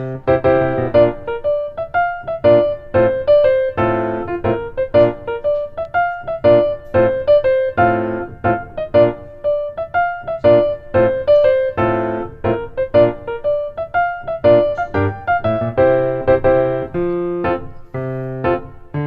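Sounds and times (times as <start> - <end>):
bouncy piano tune: 0.0 - 19.0.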